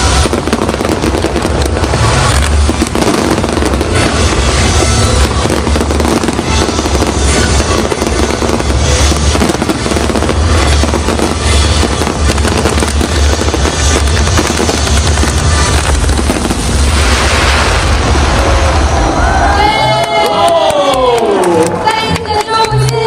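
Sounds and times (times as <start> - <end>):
fireworks bangs and crackles: 0.0 - 21.3
music playing: 0.0 - 23.0.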